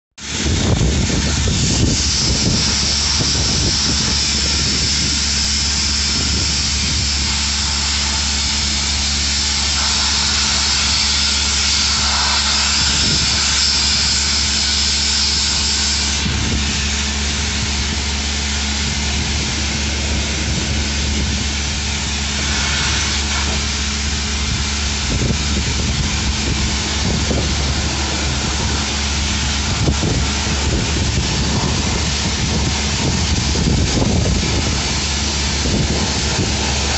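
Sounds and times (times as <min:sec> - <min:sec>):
machinery humming and hissing: 0:00.2 - 0:36.9.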